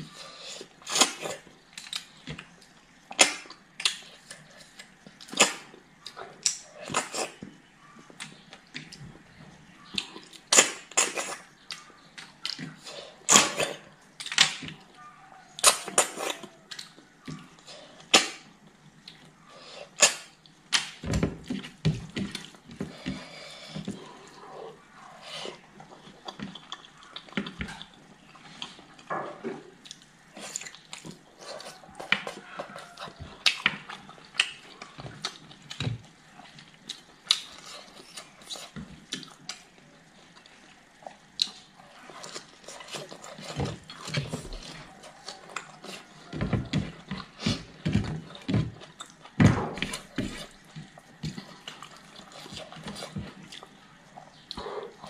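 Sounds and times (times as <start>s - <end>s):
wet chewing: 9.8s - 55.0s.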